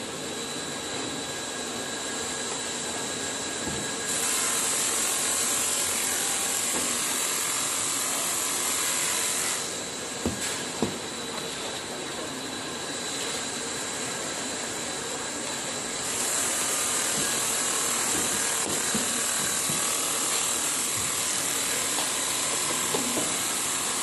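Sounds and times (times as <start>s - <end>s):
machinery whirring and hissing: 0.0s - 24.0s.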